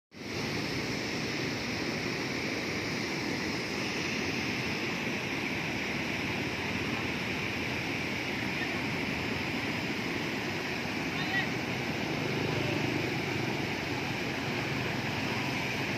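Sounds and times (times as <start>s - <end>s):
water rushing over weir: 0.2s - 15.9s.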